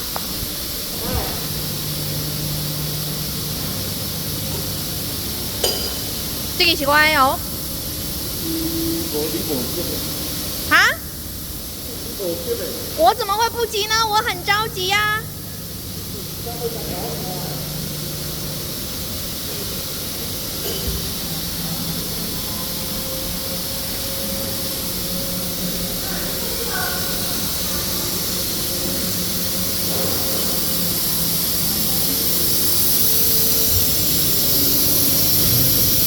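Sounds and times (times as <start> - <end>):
industrial machinery hiss and hum: 0.0 - 36.0.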